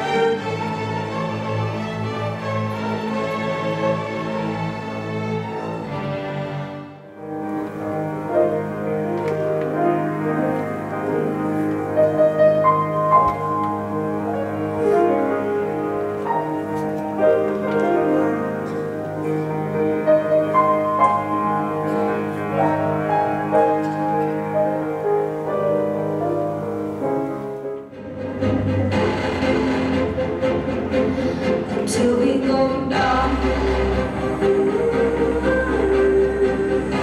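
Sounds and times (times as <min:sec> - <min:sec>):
grand piano melody: 0:00.0 - 0:37.0.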